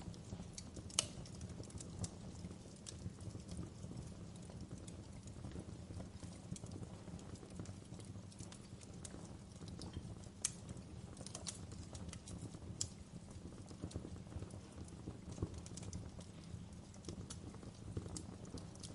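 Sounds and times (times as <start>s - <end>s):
low rumble of flame: 0.0s - 18.9s
wood fire crackling and popping: 0.0s - 18.9s.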